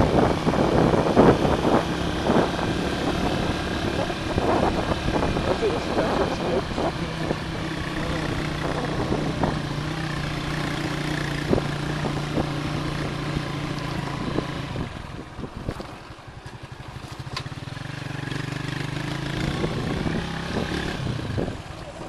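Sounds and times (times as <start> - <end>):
wind noise: 0.0 - 16.0, 19.3 - 21.7
motorcycle engine running: 0.0 - 22.0.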